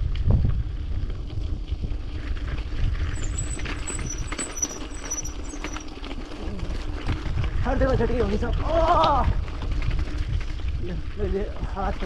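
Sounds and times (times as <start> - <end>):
wind on microphone: 0.0 - 5.7, 6.3 - 12.0
bike tyres crunching on gravel: 0.0 - 12.0
bike frame rattling: 0.6 - 12.0.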